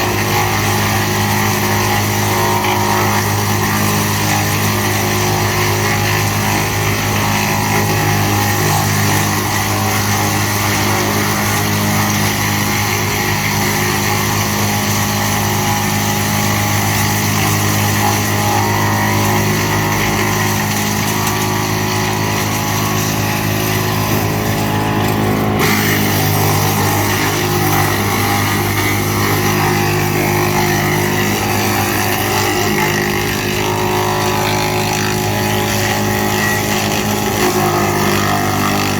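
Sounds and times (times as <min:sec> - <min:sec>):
woodchipper running: 0:00.0 - 0:38.9.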